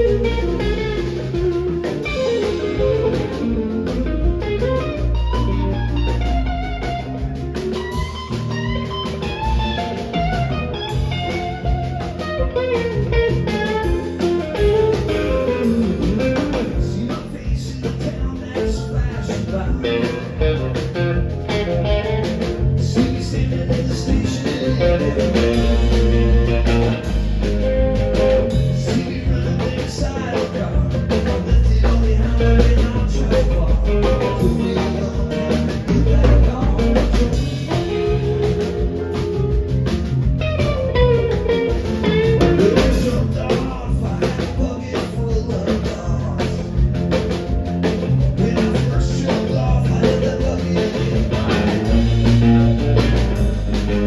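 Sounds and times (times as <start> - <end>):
lead guitar line: 0.0 - 54.0
live rock band playing: 0.0 - 54.0.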